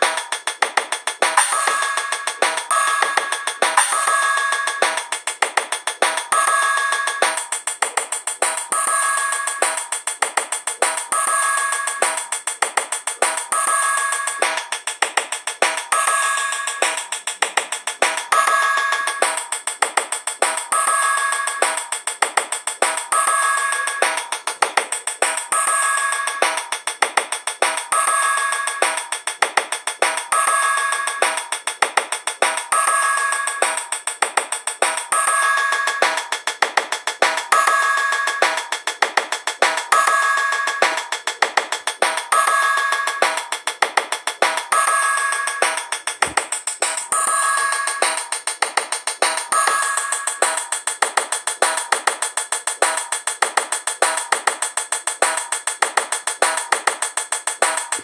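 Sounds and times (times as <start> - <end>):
looping background music: 0.0 - 51.3
fast ticking percussion: 0.0 - 52.3.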